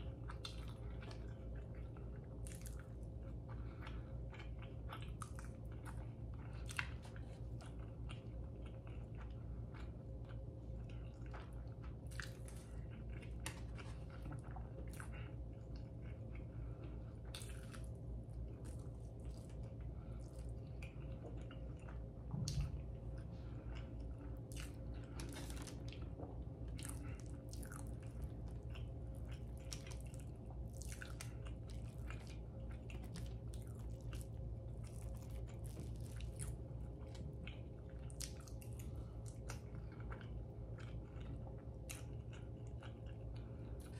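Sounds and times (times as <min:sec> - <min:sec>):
close chewing and mouth clicks: 0:00.0 - 0:43.9
steady low hum: 0:00.0 - 0:43.9.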